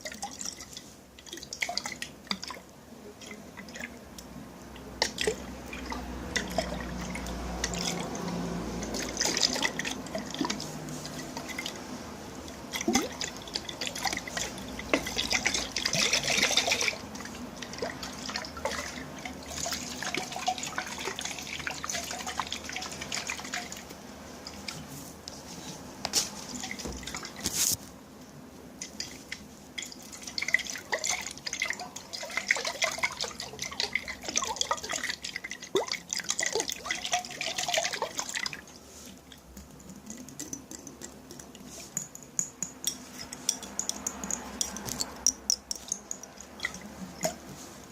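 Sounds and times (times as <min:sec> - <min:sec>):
water dripping and splashing: 0:00.0 - 0:24.9, 0:28.8 - 0:47.9.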